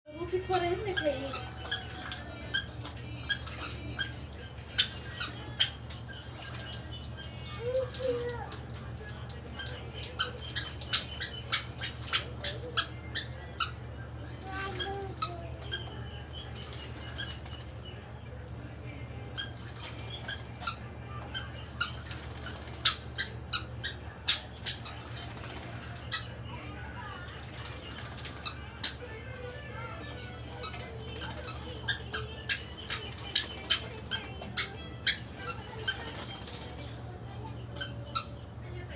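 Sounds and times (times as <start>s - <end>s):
bird squawking: 0.4s - 8.4s, 9.4s - 17.8s, 19.4s - 26.5s, 27.4s - 37.0s.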